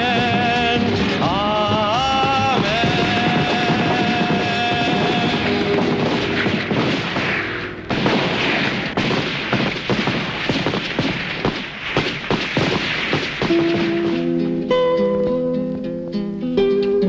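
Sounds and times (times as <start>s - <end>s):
gunfire: 0.0s - 14.5s
sharp gunshots: 0.0s - 14.5s
booms: 0.0s - 14.6s.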